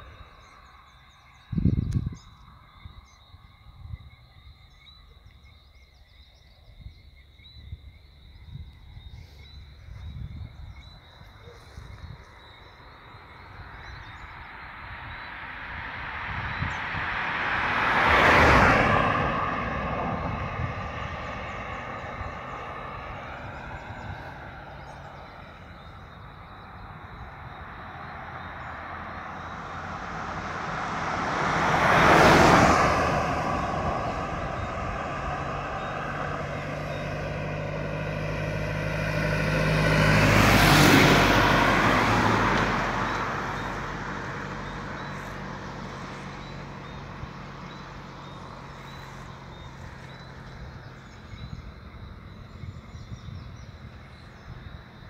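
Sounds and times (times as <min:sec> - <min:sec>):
road vehicles passing: 0:00.0 - 0:55.0.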